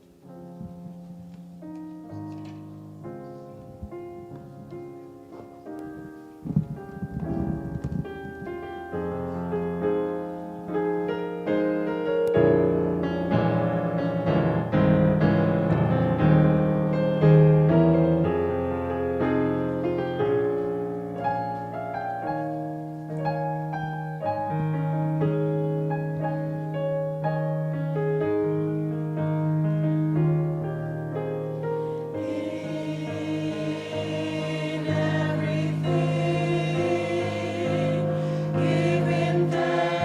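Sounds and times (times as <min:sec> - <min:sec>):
piano playing chords and melody: 0:00.0 - 0:40.0.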